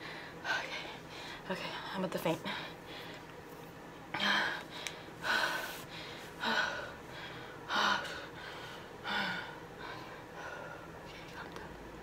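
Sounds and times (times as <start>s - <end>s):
woman breathing heavily: 0.0s - 3.4s, 4.1s - 11.1s.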